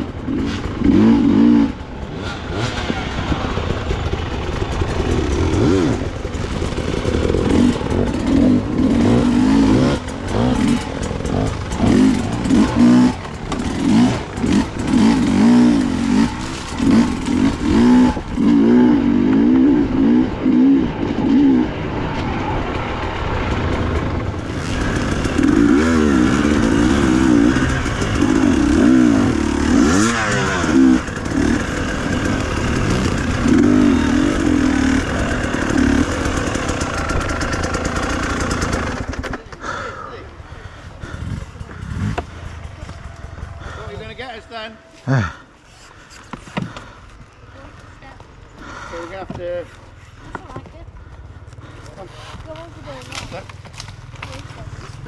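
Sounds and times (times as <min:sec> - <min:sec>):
dirt bike engine revving: 0:00.0 - 0:45.5.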